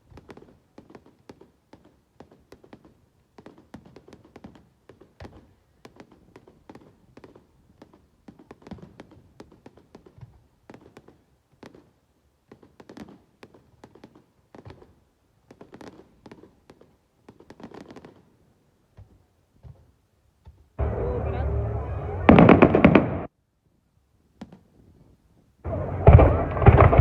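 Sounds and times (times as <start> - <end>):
fireworks bangs and crackles: 0.0 - 19.8, 20.8 - 23.3, 25.7 - 27.0.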